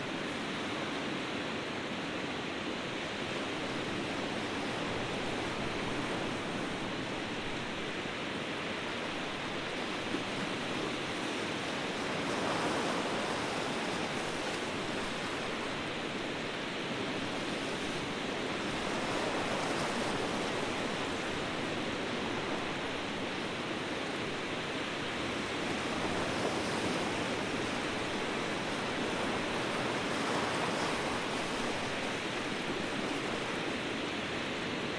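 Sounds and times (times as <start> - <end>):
waves breaking: 3.1 - 34.9.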